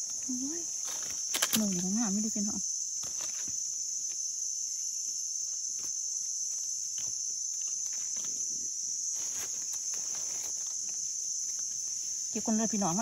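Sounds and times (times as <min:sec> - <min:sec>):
insect chorus: 0:00.0 - 0:13.0
rustles in dry leaves: 0:00.0 - 0:13.0.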